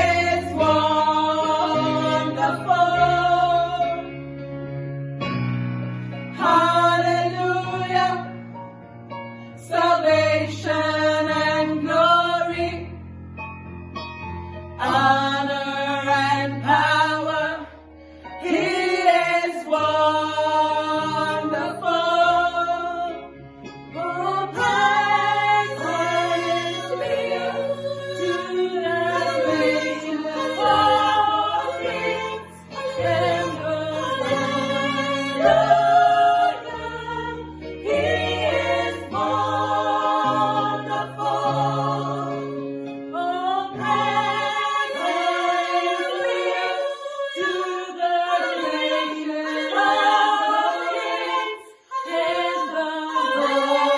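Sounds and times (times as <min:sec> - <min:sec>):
gospel choir singing: 0:00.0 - 0:08.8, 0:09.4 - 0:13.1, 0:14.8 - 0:53.9.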